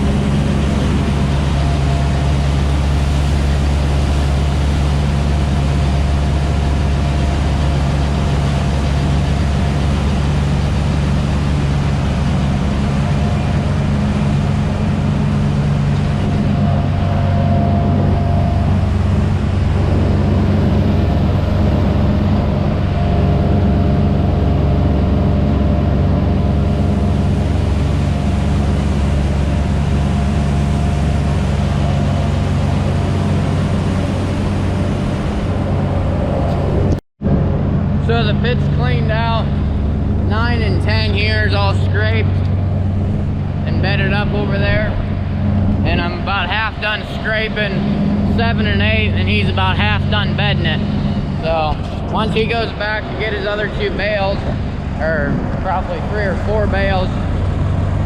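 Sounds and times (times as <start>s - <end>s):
farm machine engine humming: 0.0s - 58.0s.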